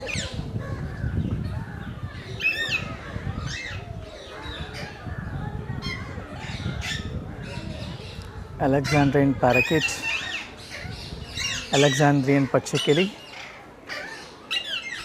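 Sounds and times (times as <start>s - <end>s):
parakeets calling: 0.0s - 15.0s.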